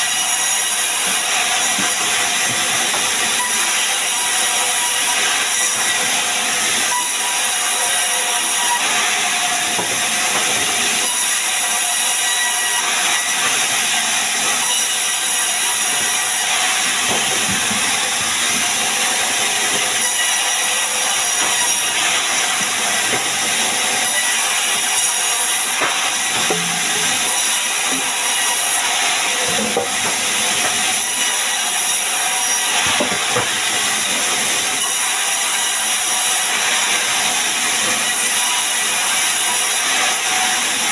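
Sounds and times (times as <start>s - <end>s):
band saw cutting wood: 0.0s - 40.9s.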